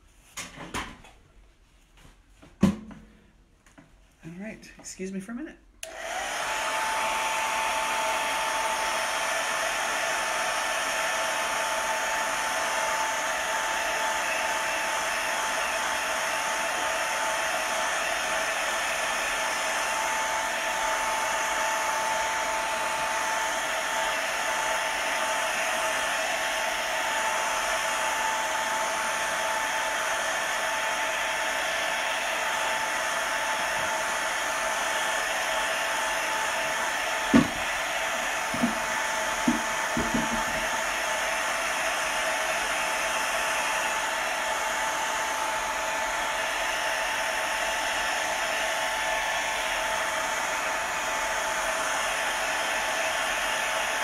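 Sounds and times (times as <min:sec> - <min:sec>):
hair dryer running: 0:03.8 - 0:54.0.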